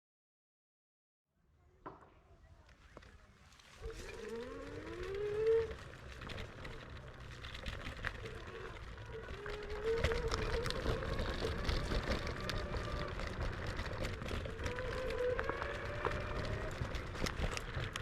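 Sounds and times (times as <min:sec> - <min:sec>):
knocks and rattles over rough ground: 0:02.8 - 0:18.0
electric scooter motor whining: 0:02.9 - 0:18.0.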